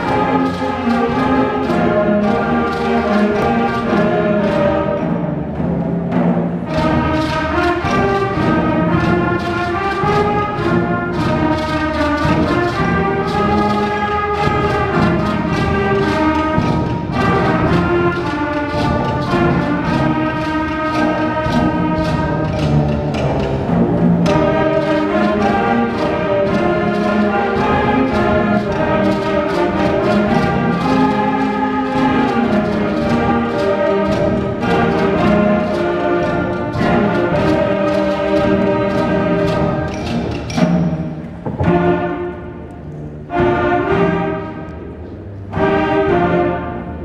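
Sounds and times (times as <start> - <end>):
drum strikes: 0.0 - 45.0.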